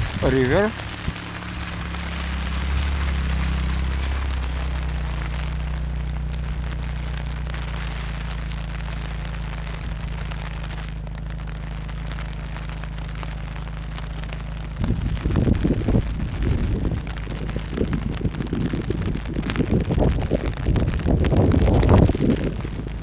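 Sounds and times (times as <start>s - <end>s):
freezing rain patter: 0.0s - 23.0s
low hum: 0.0s - 23.0s.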